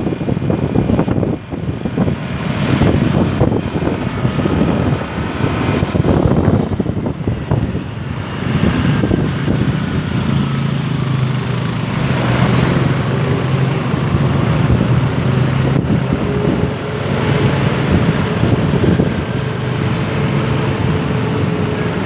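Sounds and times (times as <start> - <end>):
road noise: 0.0 - 22.0
vehicle engine humming: 0.0 - 22.0.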